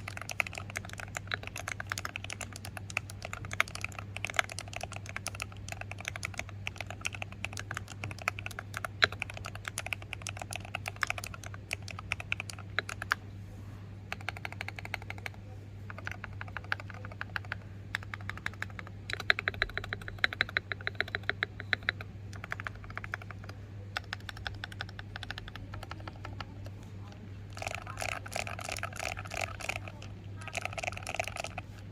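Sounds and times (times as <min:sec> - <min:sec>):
mechanical keyboard typing: 0:00.0 - 0:13.2, 0:14.1 - 0:26.8, 0:27.5 - 0:31.9.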